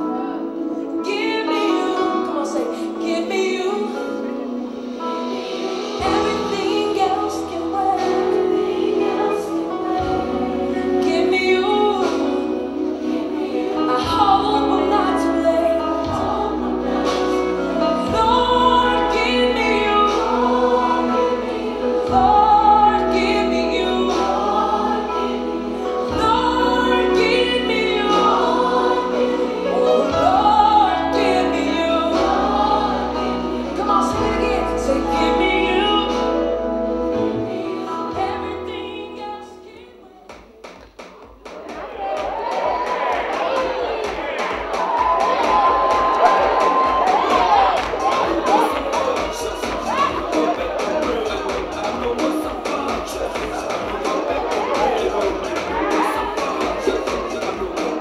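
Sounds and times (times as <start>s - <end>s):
gospel song with vibrato singing: 0.0s - 58.0s.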